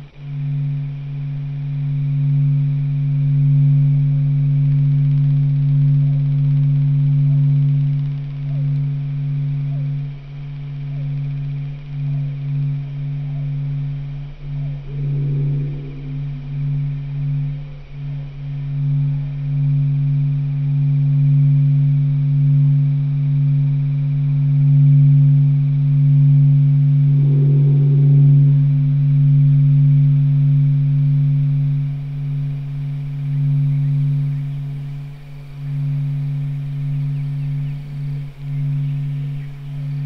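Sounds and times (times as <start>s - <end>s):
low droning tone: 0.0s - 40.0s.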